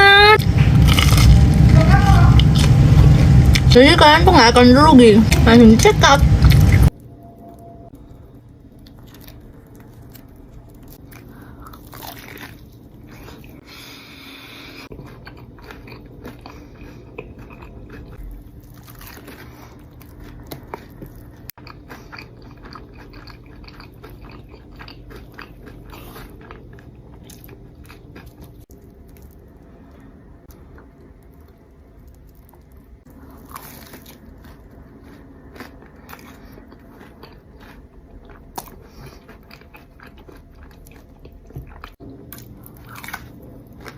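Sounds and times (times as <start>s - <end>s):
person chewing crunchy food: 0.0s - 3.7s, 6.3s - 7.0s, 8.0s - 43.9s.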